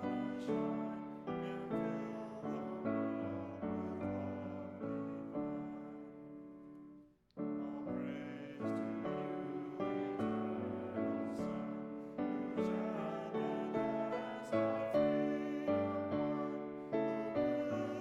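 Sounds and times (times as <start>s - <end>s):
piano playing hymn chords: 0.0s - 18.0s.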